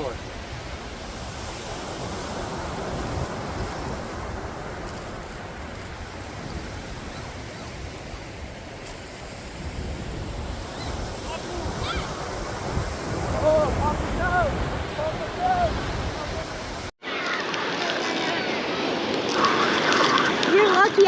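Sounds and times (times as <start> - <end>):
ocean surf washing: 0.0 - 21.0
wind on microphone: 0.0 - 21.0.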